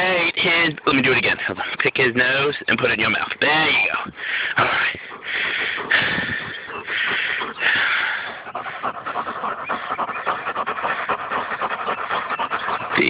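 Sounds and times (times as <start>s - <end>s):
dogs panting: 0.0s - 13.0s.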